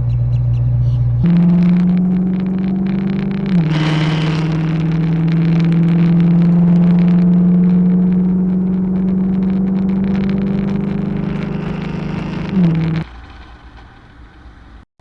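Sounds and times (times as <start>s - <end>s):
car engine droning: 0.0s - 14.8s.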